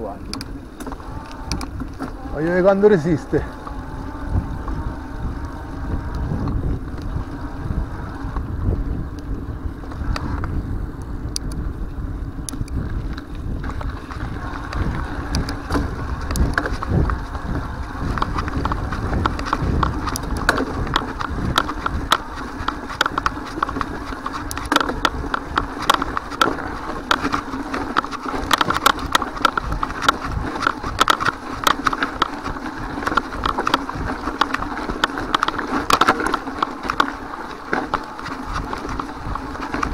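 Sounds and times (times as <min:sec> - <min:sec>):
bike rattling: 0:00.0 - 0:39.9
bike tyres crunching on gravel: 0:00.0 - 0:39.9
wind rumbling on microphone: 0:00.0 - 0:39.9.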